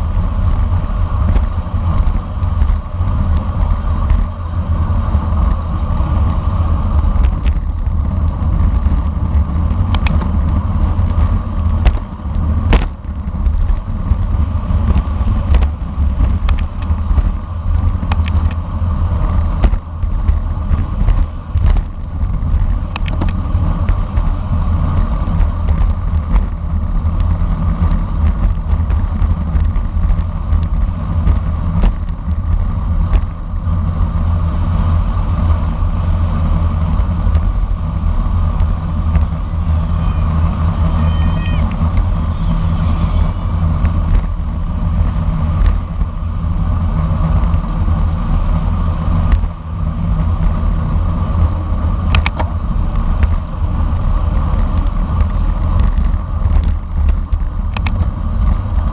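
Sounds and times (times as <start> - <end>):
bicycle clicks and rattles: 0.0 - 58.9
wind rumble on microphone: 0.0 - 58.9.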